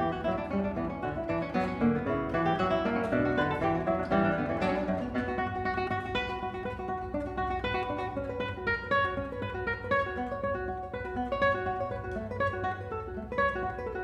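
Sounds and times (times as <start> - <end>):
classical guitars plucking: 0.0 - 14.0.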